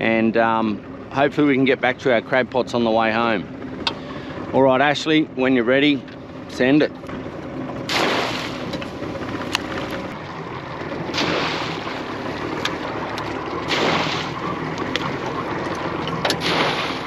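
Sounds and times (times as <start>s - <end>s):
water splashing beside boat: 0.0s - 17.0s.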